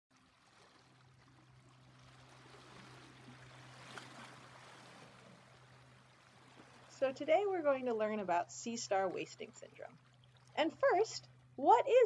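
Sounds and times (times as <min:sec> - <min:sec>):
low electrical hum: 0:00.2 - 0:12.0
soft steady hiss: 0:01.5 - 0:12.0.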